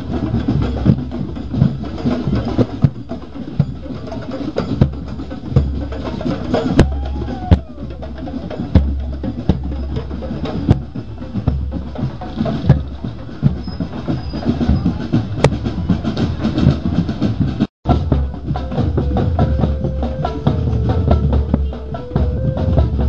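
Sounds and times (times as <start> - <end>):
parade drum band: 0.0 - 23.0.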